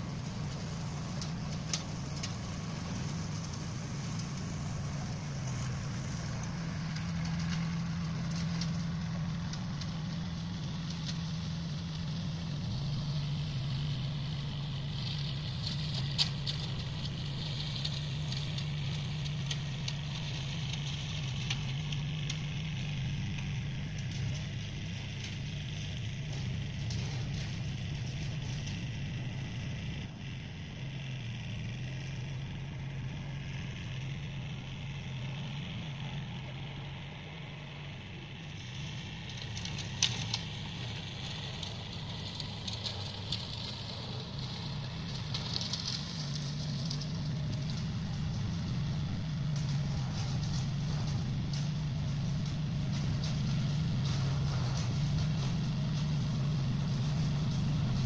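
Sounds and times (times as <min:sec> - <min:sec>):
tractor diesel engine: 0:00.0 - 0:58.0.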